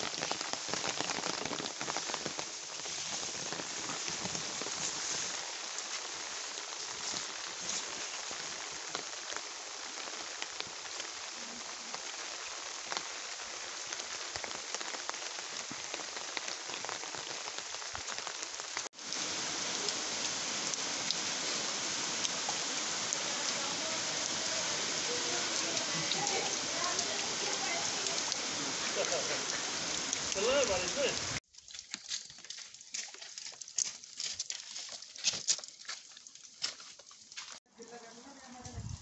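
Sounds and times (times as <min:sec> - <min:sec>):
rain falling: 0:00.0 - 0:39.0.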